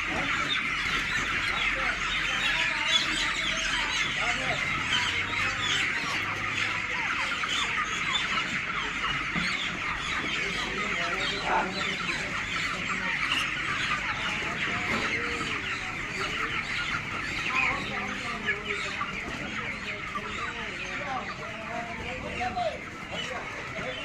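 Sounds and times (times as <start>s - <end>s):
chickens peeping and clucking: 0.0s - 24.0s.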